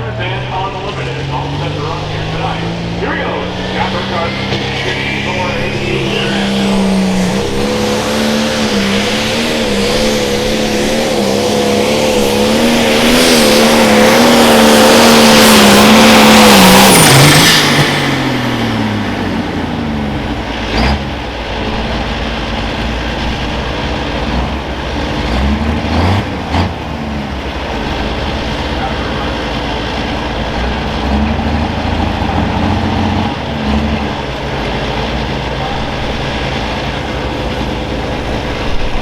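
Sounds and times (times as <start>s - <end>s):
diesel tractor engine at full throttle: 0.0s - 39.0s.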